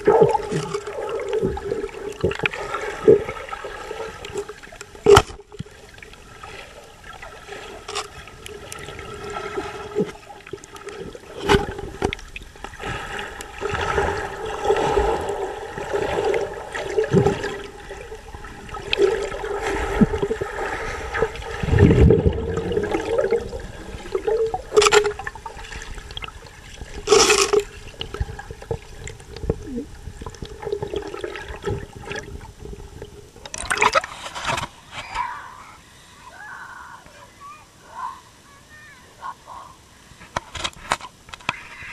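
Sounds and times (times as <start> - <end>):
water gurgling and sloshing: 0.0 - 35.8.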